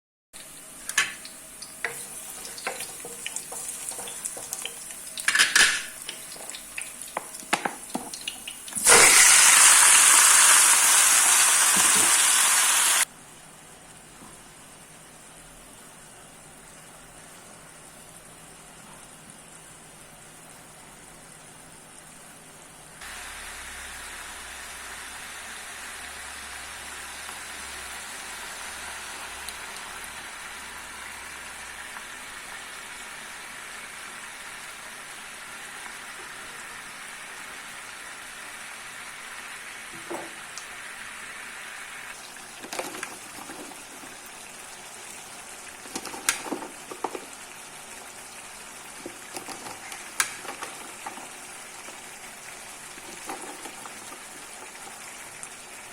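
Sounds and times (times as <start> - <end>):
food sizzling in hot oil: 0.4 - 13.1, 23.0 - 55.9.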